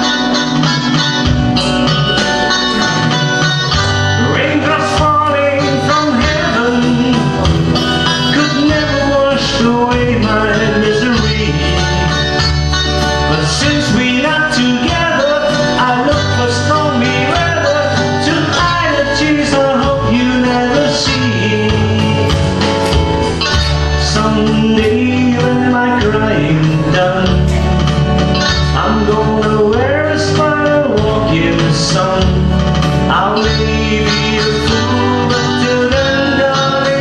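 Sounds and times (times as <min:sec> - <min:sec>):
acoustic guitar: 0:00.0 - 0:37.0
bass line: 0:00.0 - 0:37.0
man singing: 0:02.0 - 0:37.0.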